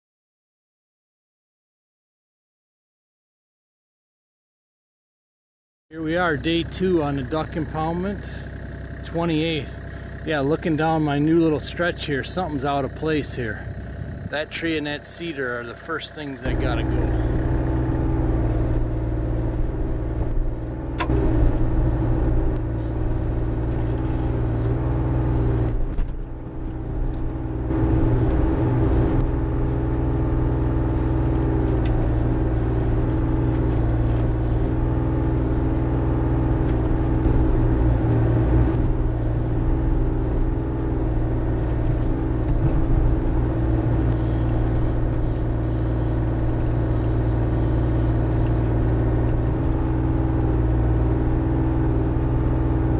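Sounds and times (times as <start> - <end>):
excavator diesel engine running: 6.0 - 52.9.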